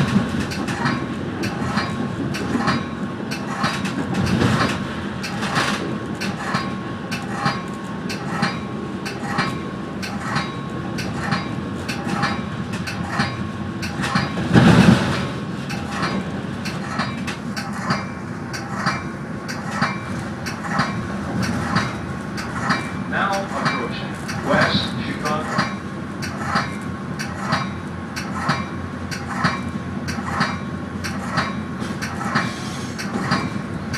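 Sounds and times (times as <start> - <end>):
train rumble: 0.0 - 33.9
train wheels clicking over rail joints: 0.0 - 33.9.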